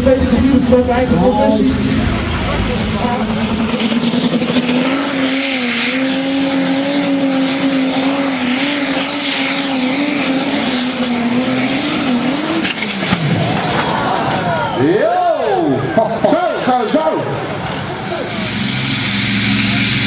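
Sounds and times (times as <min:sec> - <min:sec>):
engine running flat out: 0:00.0 - 0:20.0.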